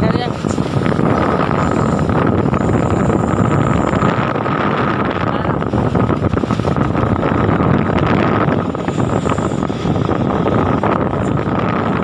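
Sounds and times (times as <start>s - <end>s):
thin whine: 0.0s - 12.0s
truck engine running: 0.0s - 12.0s
wind buffeting microphone: 0.0s - 12.0s.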